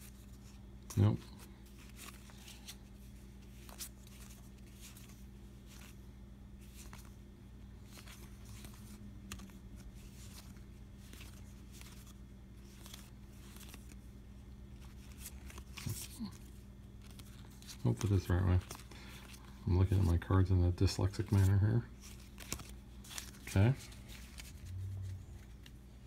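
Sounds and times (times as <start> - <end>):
cards flipping and scraping: 0.0 - 6.0, 6.6 - 26.0
low steady hum: 0.0 - 26.0.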